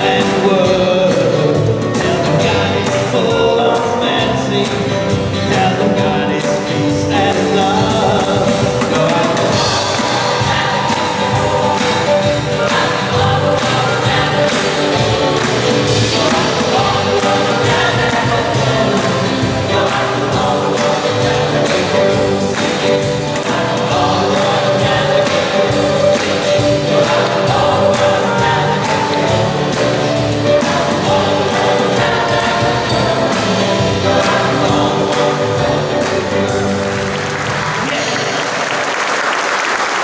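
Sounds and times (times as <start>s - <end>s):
drums beat: 0.0s - 38.3s
choir singing with live band: 0.0s - 38.8s.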